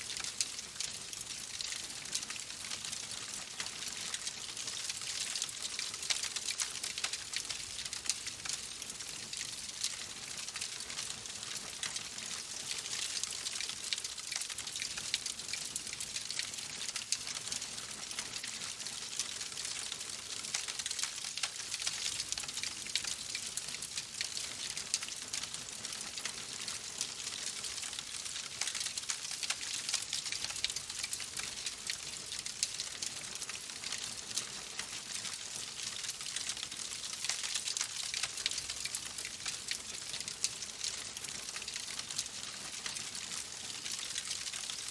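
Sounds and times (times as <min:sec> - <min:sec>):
logs crackling in a fireplace: 0:00.0 - 0:44.9.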